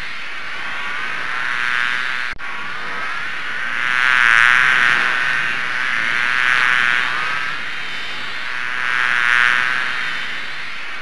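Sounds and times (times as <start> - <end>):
fly buzzing in flight: 0.0 - 11.0.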